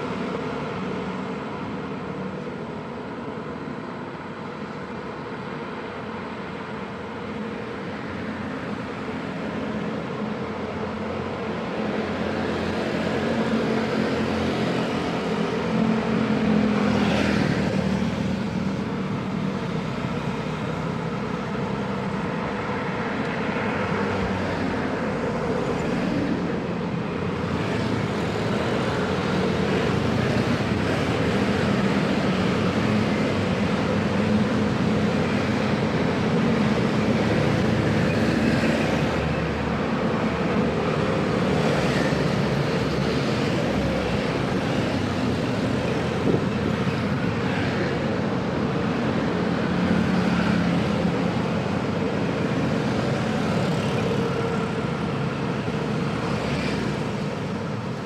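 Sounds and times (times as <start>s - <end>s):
busy road traffic: 0.0s - 58.0s.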